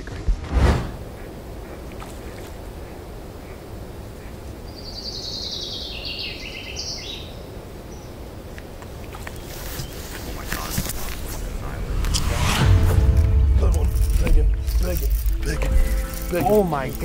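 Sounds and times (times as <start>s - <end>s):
low outdoor background noise: 1.0s - 17.0s.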